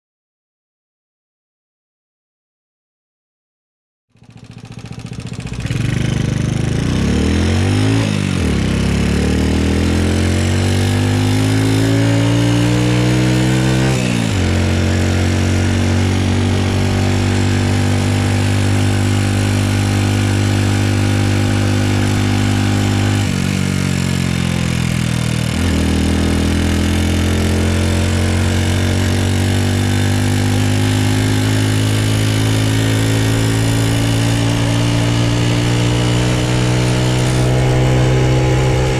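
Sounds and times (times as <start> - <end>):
motorcycle engine revving: 4.1 - 38.9.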